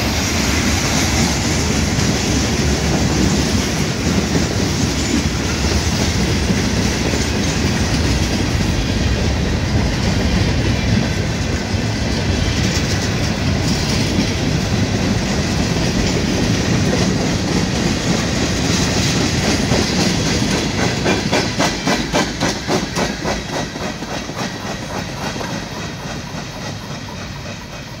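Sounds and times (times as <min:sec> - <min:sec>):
steel wheels rumbling on rail: 0:00.0 - 0:28.0
wheels clickety-clack on rail joints: 0:00.0 - 0:28.0.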